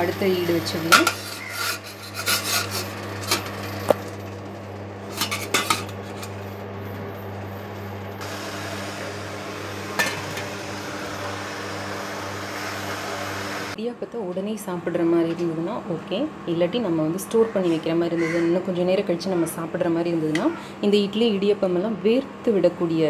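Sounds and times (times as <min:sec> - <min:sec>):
low cooktop hum: 0:00.0 - 0:23.0.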